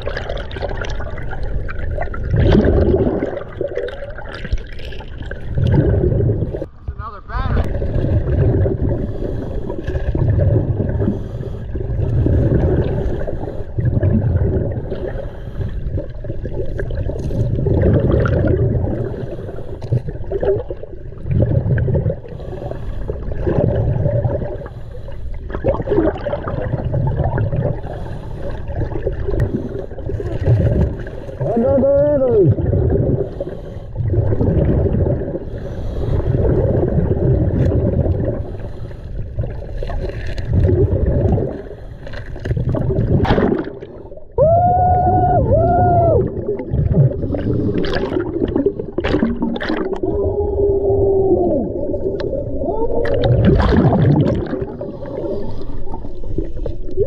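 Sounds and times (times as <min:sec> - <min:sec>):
exhaled bubbles rumbling underwater: 0:00.0 - 0:57.0.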